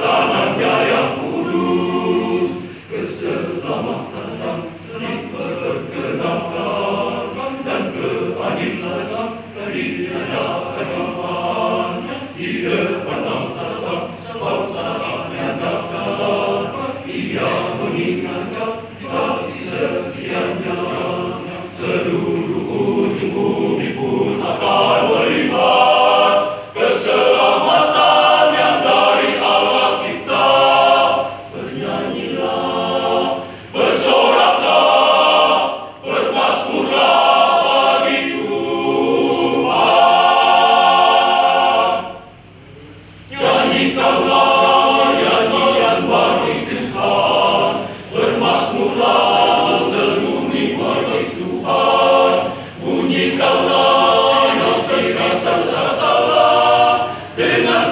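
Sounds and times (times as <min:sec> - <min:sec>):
men's choir singing: 0:00.0 - 0:42.5, 0:43.2 - 0:57.9.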